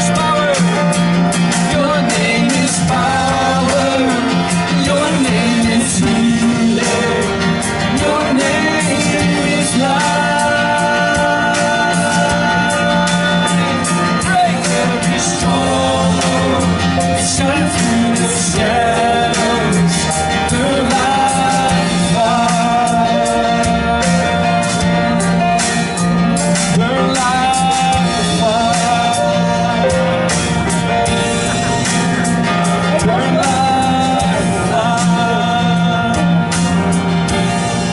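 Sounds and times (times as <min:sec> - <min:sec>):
person singing: 0:00.0 - 0:31.1, 0:31.8 - 0:37.4
bass: 0:00.0 - 0:37.9
guitar: 0:00.0 - 0:37.9.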